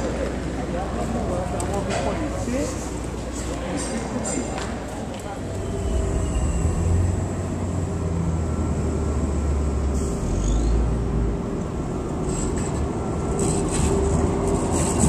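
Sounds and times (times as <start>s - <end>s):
rumble of street traffic: 0.0s - 15.0s.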